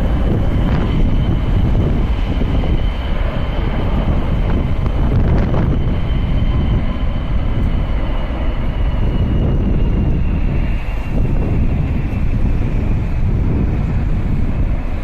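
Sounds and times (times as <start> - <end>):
high jet whine: 0.0 - 15.0
jet engines rumbling: 0.0 - 15.0
wind buffeting microphone: 0.0 - 15.0.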